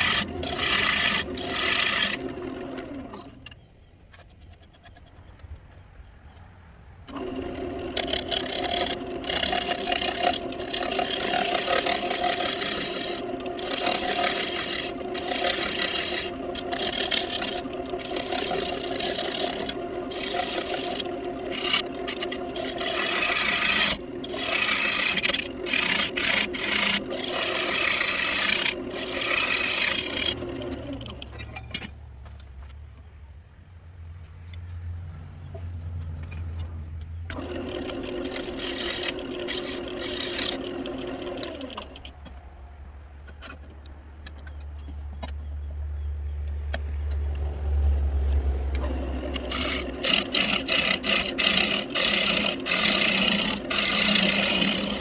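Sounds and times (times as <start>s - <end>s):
wood lathe humming: 0.0s - 3.6s, 5.3s - 32.1s, 37.3s - 44.4s, 47.2s - 55.0s
tool scraping spinning wood: 0.0s - 33.2s, 35.4s - 55.0s.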